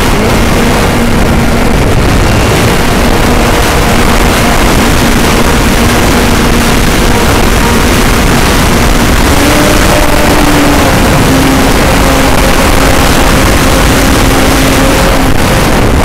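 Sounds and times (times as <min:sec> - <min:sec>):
model airplane motor drone: 0:00.0 - 0:16.0
wind buffeting microphone: 0:00.0 - 0:16.0.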